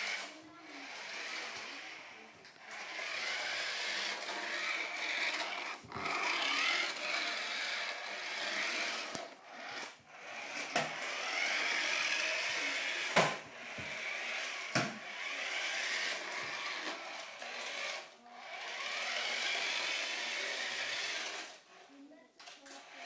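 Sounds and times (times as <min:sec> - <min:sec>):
tyres scraping on floor: 0:00.0 - 0:21.6
toy car motor whine: 0:00.0 - 0:23.0.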